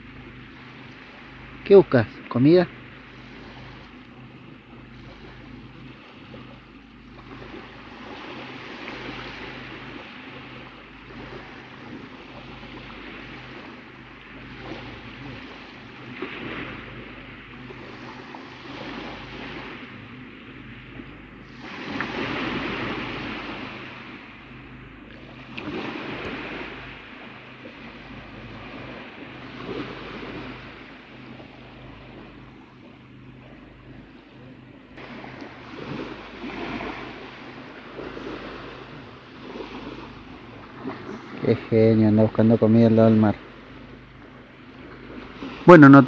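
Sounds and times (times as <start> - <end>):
sea waves washing on shore: 0.0 - 46.0.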